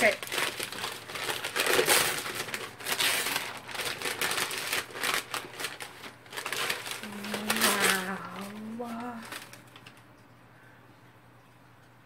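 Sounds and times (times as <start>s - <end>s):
paper wrapping crinkling: 0.0s - 10.2s.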